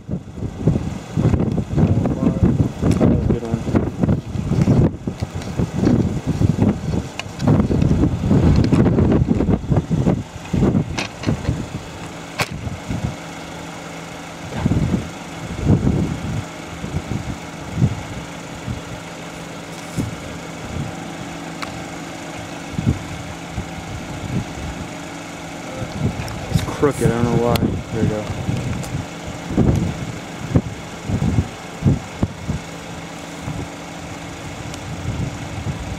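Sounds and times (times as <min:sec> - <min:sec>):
vehicle engine idling: 0:00.0 - 0:35.9.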